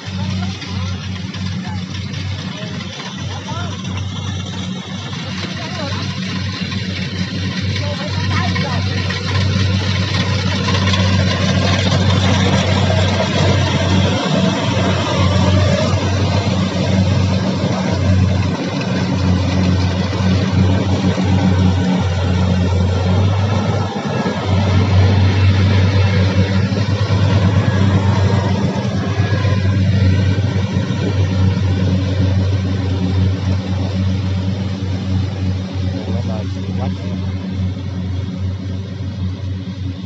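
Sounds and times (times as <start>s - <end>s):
combine harvester engine drone: 0.0s - 40.0s
machine noise: 0.0s - 40.0s.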